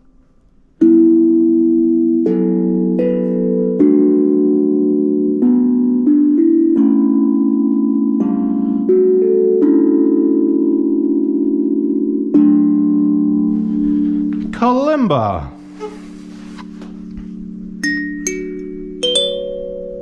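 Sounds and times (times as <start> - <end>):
steel tongue drum melody: 0.0 - 20.0.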